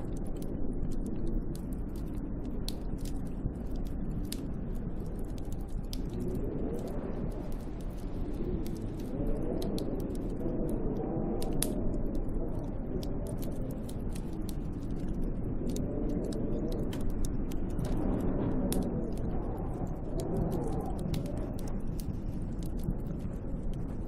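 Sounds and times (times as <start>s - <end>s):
wind howling: 0.0s - 24.0s.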